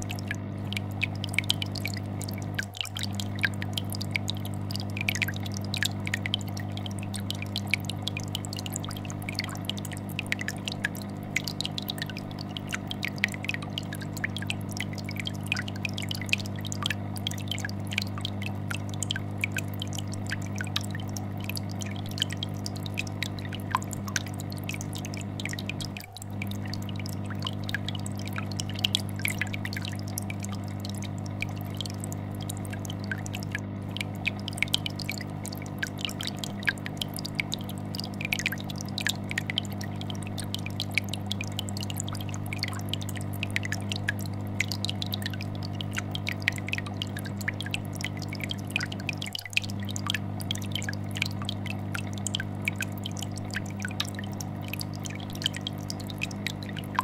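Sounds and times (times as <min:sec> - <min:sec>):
aquarium air bubbler bubbling: 0:00.0 - 0:57.0
fish tank filter humming: 0:00.0 - 0:57.0.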